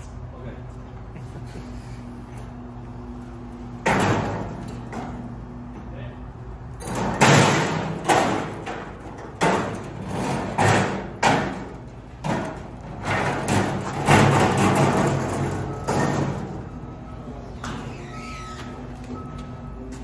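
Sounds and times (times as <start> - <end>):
forklift engine running: 0.0 - 20.0.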